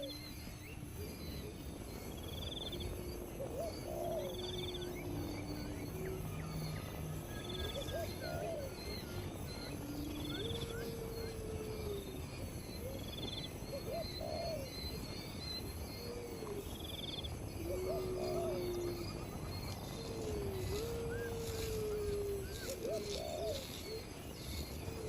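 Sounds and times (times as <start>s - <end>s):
low hooting animal calls: 1.0s - 25.0s.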